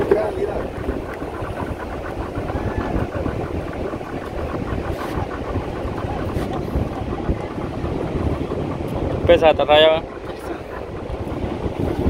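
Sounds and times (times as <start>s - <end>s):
outboard motor running: 0.0s - 12.0s
wind rumbling on microphone: 0.0s - 12.0s.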